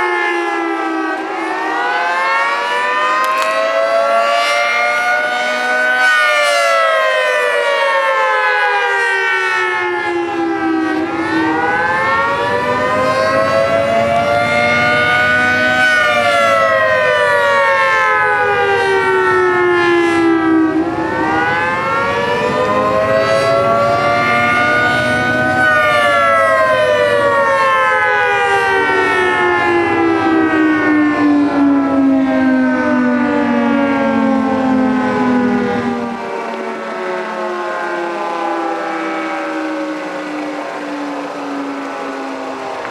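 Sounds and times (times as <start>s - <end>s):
civil defense siren wailing: 0.0s - 42.9s.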